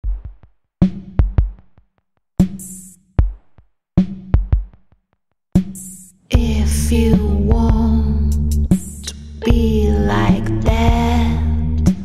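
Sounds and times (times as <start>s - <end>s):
electronic drum beat: 0.0s - 1.8s, 2.4s - 4.9s, 5.6s - 12.0s.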